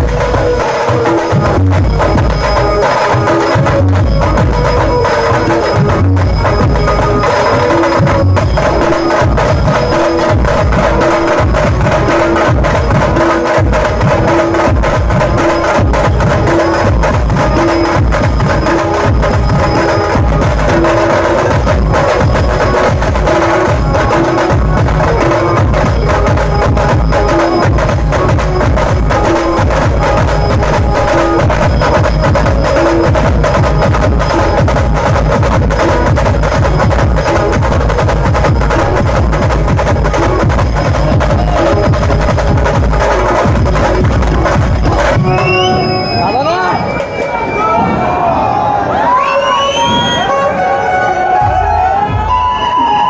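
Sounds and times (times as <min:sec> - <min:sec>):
fast dense drumming: 0:00.0 - 0:47.0.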